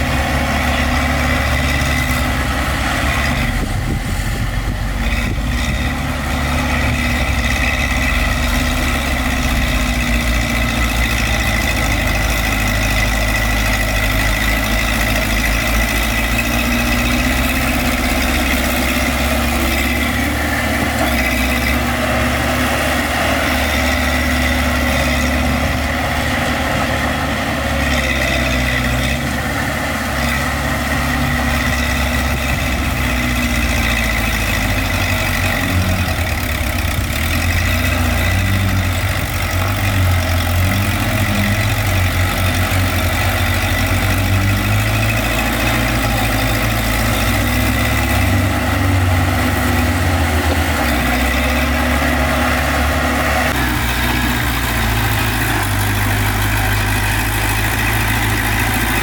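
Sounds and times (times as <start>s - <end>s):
diesel engine rumbling: 0.0s - 59.0s
high engine whine: 0.0s - 59.0s.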